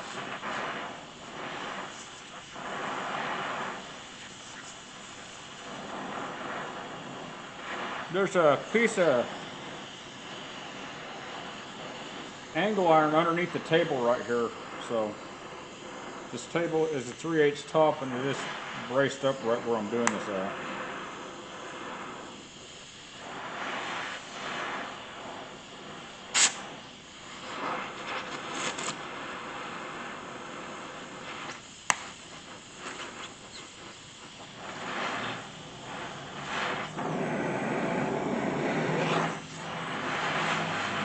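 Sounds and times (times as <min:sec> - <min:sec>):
gas torch flame hissing: 0:00.0 - 0:41.0.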